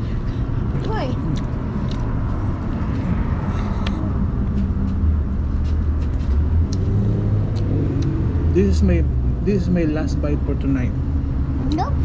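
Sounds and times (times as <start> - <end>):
engine hum: 0.0 - 12.0
road traffic rumble: 0.0 - 12.0.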